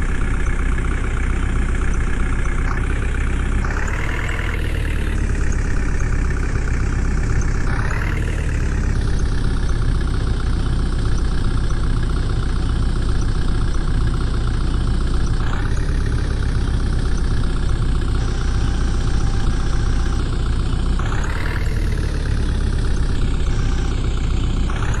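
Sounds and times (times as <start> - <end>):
diesel engine running and revving: 0.0 - 25.0.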